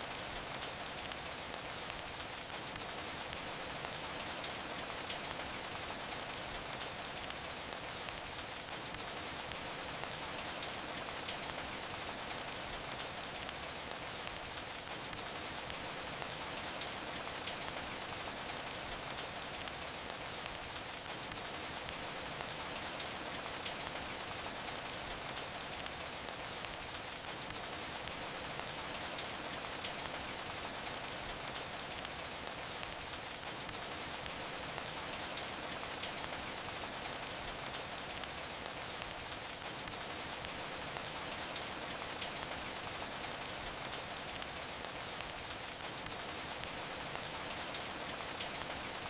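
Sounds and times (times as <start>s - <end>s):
steady rain falling: 0.0s - 49.0s
wood fire crackling: 0.0s - 49.0s.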